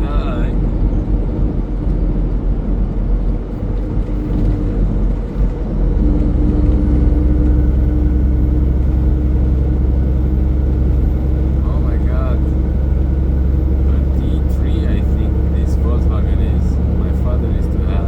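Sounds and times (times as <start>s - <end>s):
road rumble: 0.0s - 18.0s
truck engine drone: 0.0s - 18.0s.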